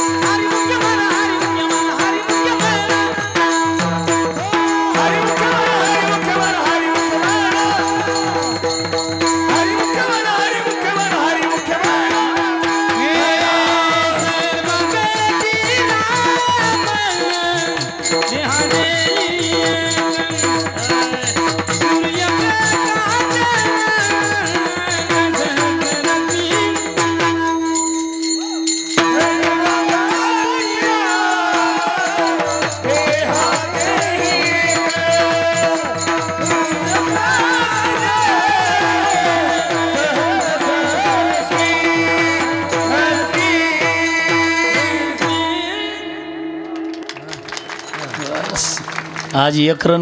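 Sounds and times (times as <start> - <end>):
fast hand drumming: 0.0 - 27.5, 29.0 - 45.4
person singing: 0.0 - 47.4.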